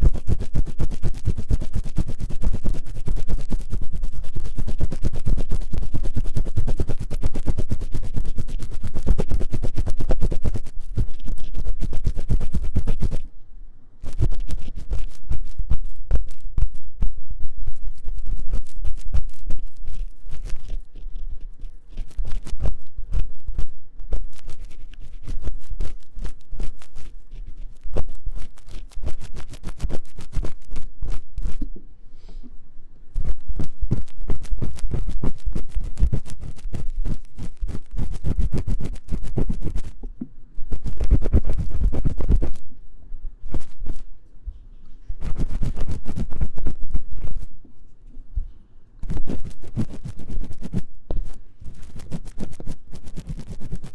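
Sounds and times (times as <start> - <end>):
scratching on microphone ear: 0.0 - 13.3, 14.0 - 32.4, 33.2 - 42.8, 43.4 - 53.9.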